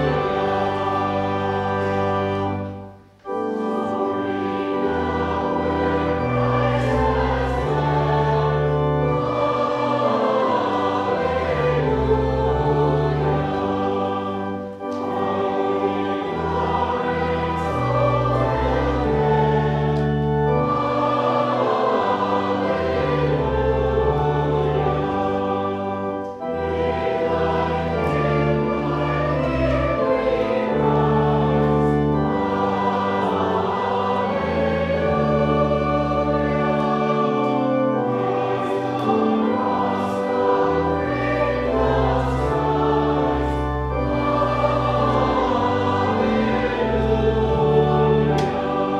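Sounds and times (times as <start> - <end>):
choir singing a hymn: 0.0 - 48.9.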